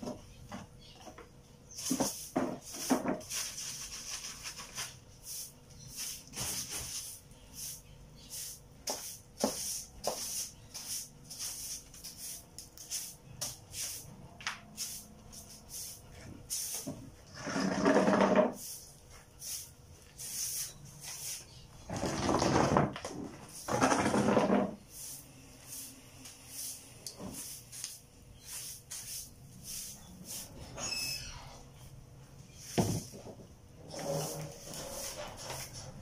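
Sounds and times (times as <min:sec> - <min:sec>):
broom sweeping concrete floor: 0:01.6 - 0:36.0.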